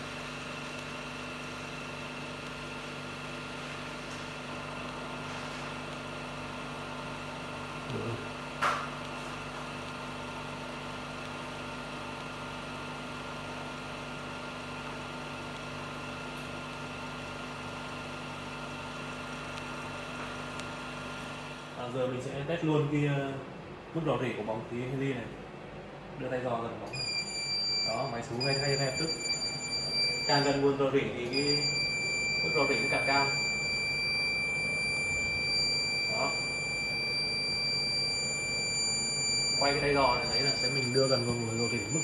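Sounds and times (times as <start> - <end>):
machine hum with steady tones: 0.0 - 42.0.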